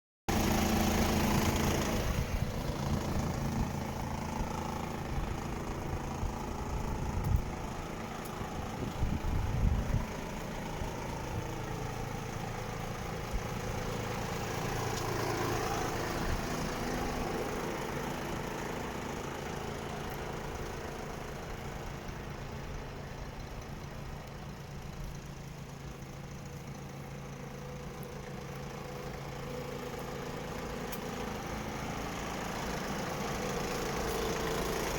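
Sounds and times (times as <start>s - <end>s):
truck diesel engine idling: 0.3s - 34.9s.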